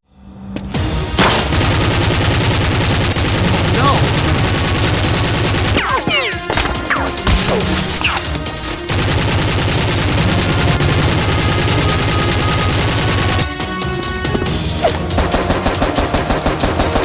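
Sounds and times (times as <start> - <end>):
background music: 0.1 - 17.0
automatic gunfire: 1.2 - 13.5, 15.0 - 17.0.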